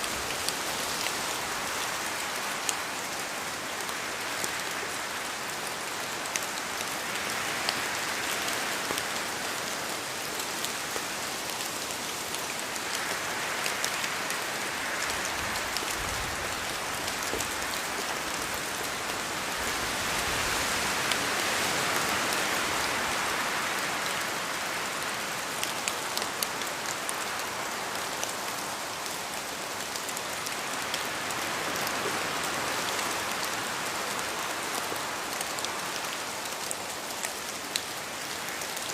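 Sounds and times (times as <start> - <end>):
raindrops ticking on a surface: 0.0 - 38.9
steady rainfall: 0.0 - 38.9.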